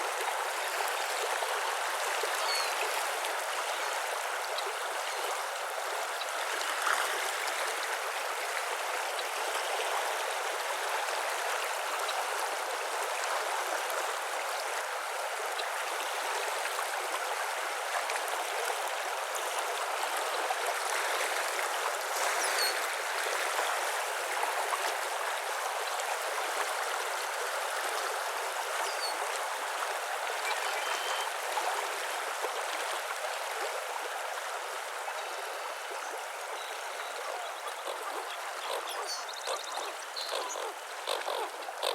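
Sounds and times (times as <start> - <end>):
flowing stream water: 0.0 - 41.9.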